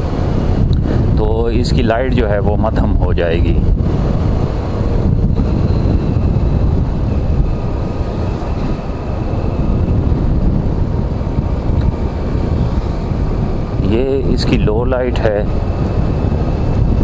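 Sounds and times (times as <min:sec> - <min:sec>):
wind on the microphone: 0:00.0 - 0:17.0.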